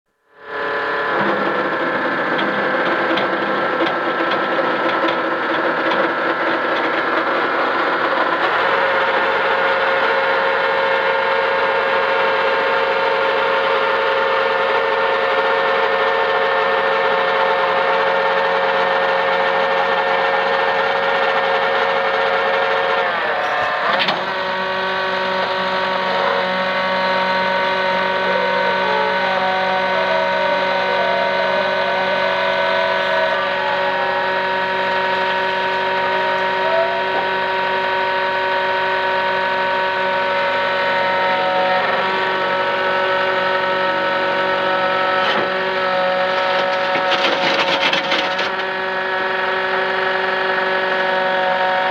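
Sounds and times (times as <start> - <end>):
skid steer engine running: 0.2 - 51.9.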